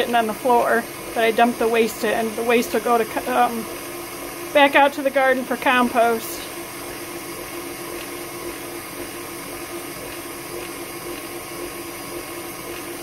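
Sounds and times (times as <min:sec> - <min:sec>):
stand mixer motor humming: 0:00.0 - 0:13.0.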